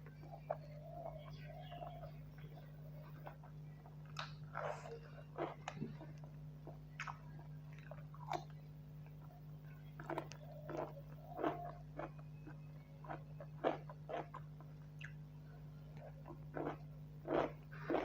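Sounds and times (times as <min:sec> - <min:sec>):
person chewing food: 0:00.0 - 0:09.4, 0:10.0 - 0:18.0
steady low hum: 0:00.0 - 0:18.0.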